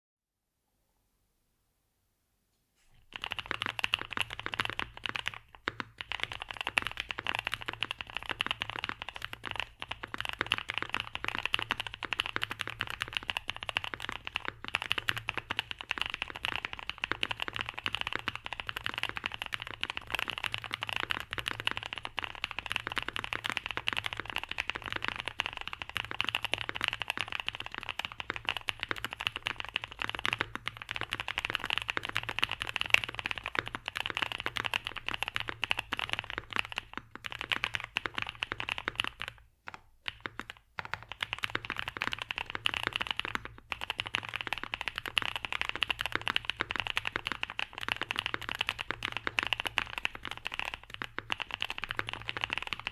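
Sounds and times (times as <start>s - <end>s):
mechanical keyboard typing: 3.1s - 52.9s.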